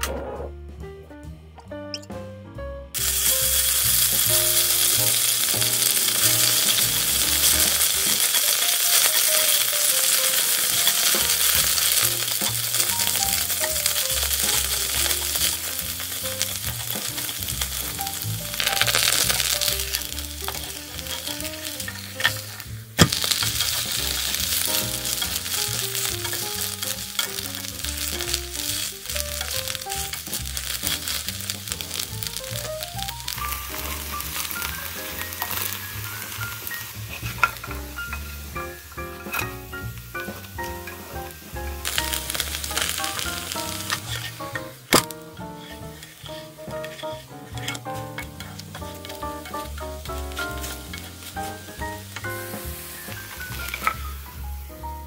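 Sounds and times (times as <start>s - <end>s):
food sizzling in a pan: 3.0s - 55.0s.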